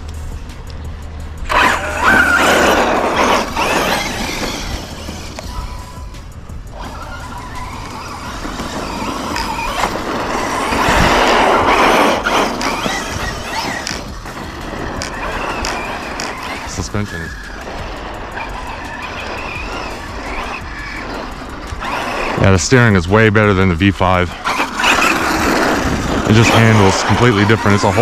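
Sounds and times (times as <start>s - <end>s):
tyre noise: 0.0s - 28.0s
electric motor whining: 1.5s - 28.0s.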